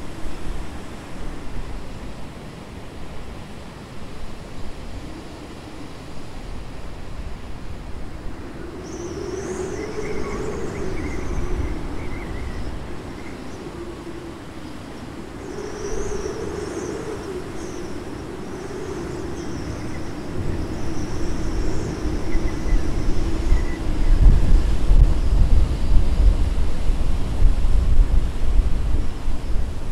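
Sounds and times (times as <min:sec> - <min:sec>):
wind buffeting microphone: 0:04.2 - 0:29.9.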